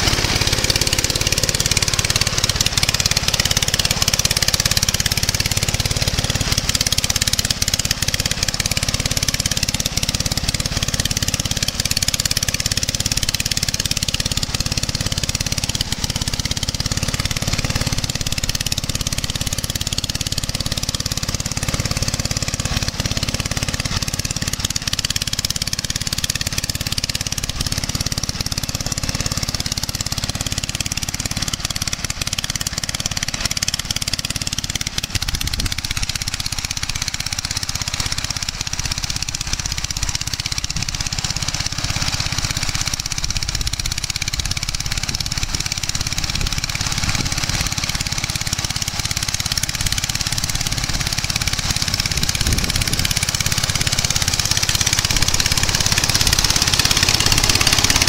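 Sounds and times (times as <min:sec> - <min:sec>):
harvesting machine running: 0:00.0 - 0:58.0.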